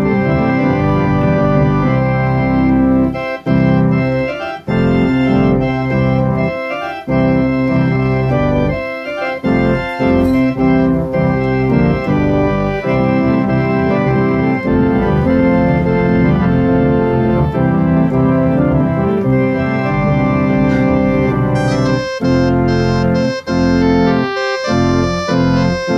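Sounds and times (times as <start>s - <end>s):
organ playing chords: 0.0s - 25.9s.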